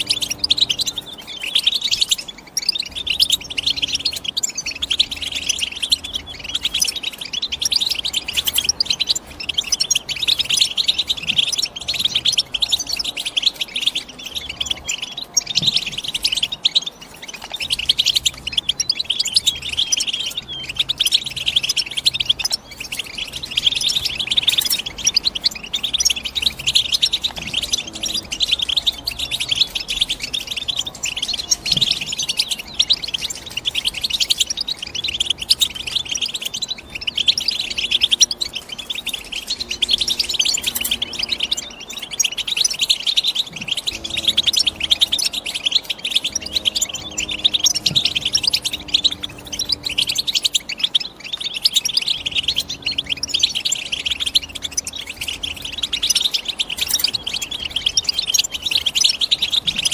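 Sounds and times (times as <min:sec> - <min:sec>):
finch twittering song: 0:00.0 - 0:59.9.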